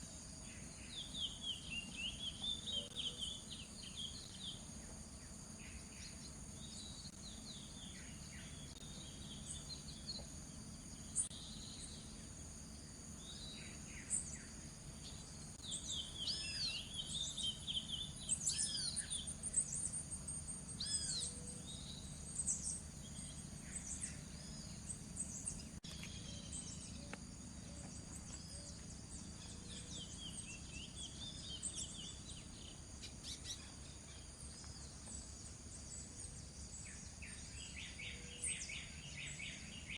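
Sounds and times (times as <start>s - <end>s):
bird twittering song: 0.0s - 39.9s
insects droning: 0.0s - 39.9s.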